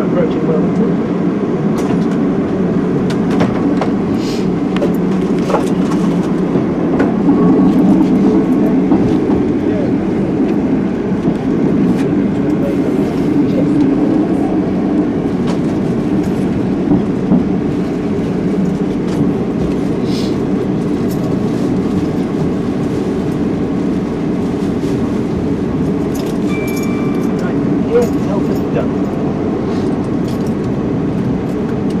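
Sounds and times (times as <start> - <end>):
train rumble: 0.0 - 32.0.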